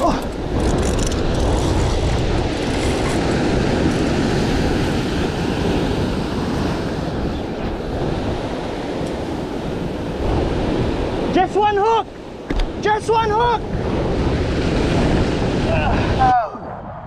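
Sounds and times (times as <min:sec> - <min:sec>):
ocean surf against rocks: 0:00.0 - 0:17.0
wind buffeting microphone: 0:00.0 - 0:17.0.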